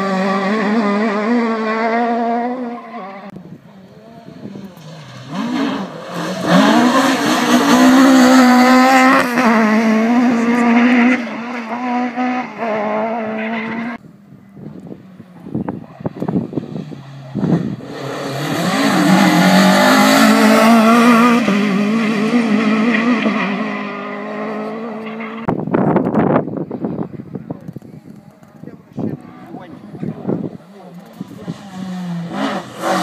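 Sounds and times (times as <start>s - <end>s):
rally car engine revving: 0.0s - 14.0s, 14.7s - 26.1s, 27.7s - 33.0s
rally car passing with gear changes: 0.0s - 33.0s.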